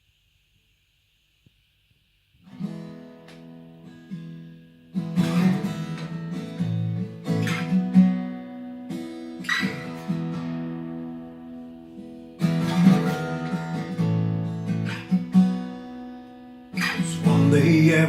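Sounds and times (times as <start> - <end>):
acoustic guitar chords strummed: 2.4 - 18.0.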